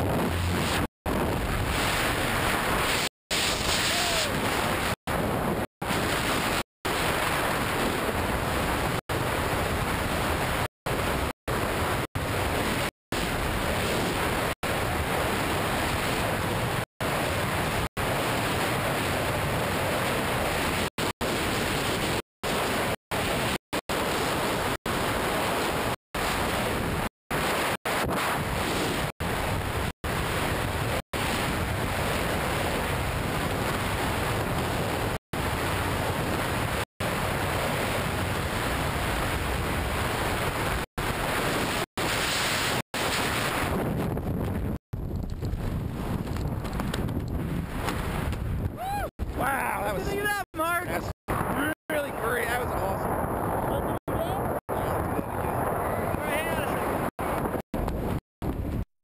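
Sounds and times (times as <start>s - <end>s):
wind blasting microphone: 0.0s - 58.9s.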